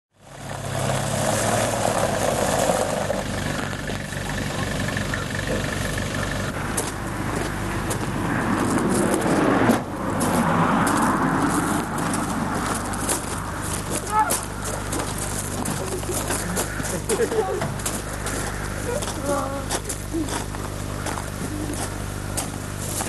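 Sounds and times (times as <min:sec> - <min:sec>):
minibus engine running: 0:00.1 - 0:23.0
tyres on gravel: 0:00.2 - 0:23.0.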